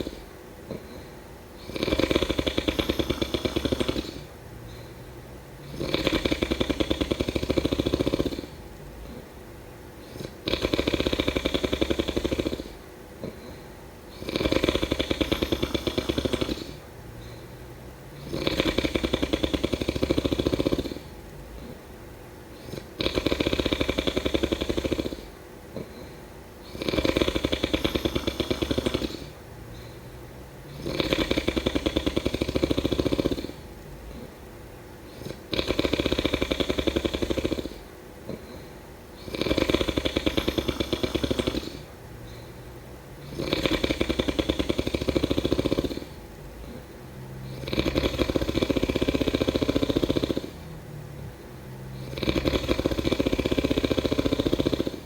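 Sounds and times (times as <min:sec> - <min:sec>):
person snoring: 0:00.0 - 0:04.3, 0:05.6 - 0:09.3, 0:10.0 - 0:17.5, 0:18.1 - 0:21.8, 0:22.5 - 0:34.4, 0:35.1 - 0:42.6, 0:43.2 - 0:55.0
quiet breathing: 0:00.0 - 0:55.0.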